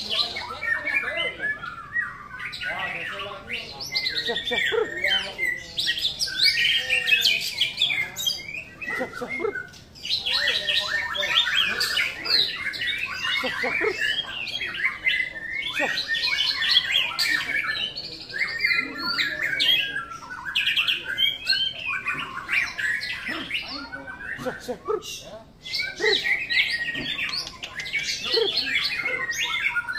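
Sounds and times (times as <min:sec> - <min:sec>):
birds singing whistles and trills: 0:00.0 - 0:29.9.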